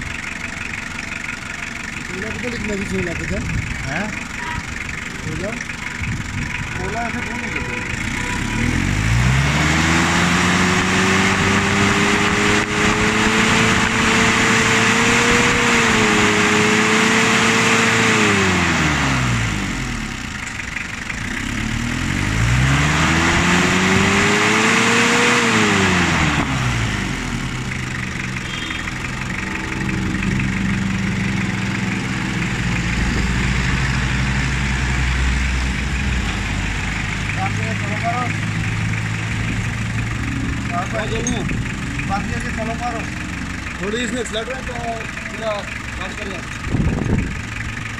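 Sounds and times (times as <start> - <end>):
diesel engine revving and idling: 0.0 - 47.9.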